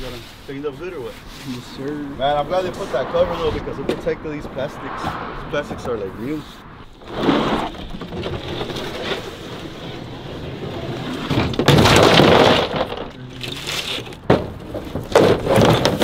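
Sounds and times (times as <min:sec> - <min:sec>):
rug scraping on concrete: 0:00.0 - 0:04.4, 0:05.7 - 0:16.0.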